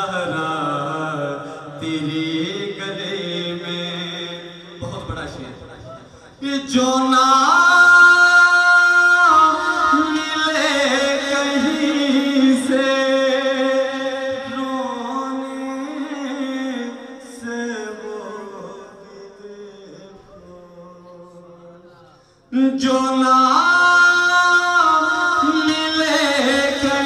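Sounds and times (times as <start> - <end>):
man singing devotional song: 0.0 - 27.0.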